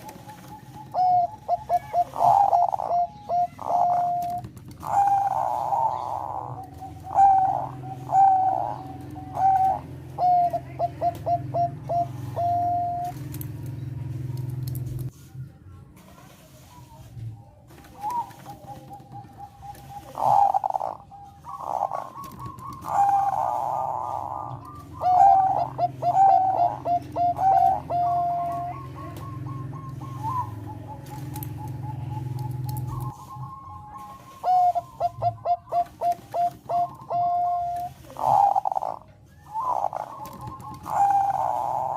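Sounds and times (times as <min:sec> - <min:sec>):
dove cooing: 0:00.0 - 0:15.0, 0:16.8 - 0:41.9.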